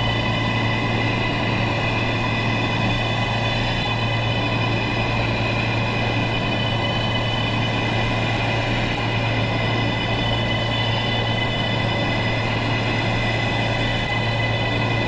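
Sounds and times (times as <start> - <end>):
high whining tones: 0.0 - 15.0
subway train low hum: 0.0 - 15.0.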